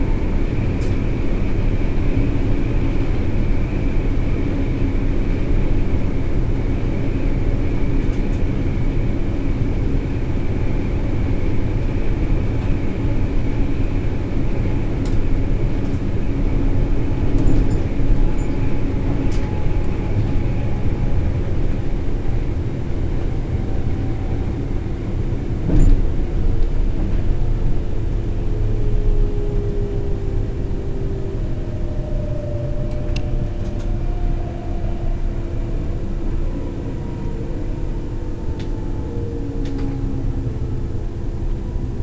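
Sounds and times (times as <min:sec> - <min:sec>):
electric train rumbling over rails: 0:00.0 - 0:42.0.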